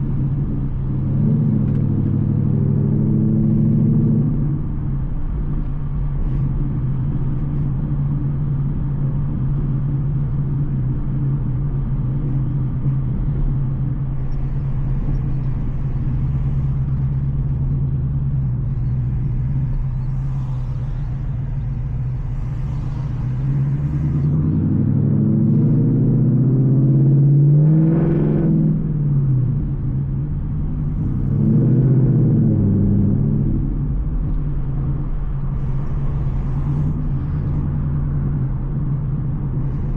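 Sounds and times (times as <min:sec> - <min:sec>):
car exhaust droning: 0:00.0 - 0:39.9.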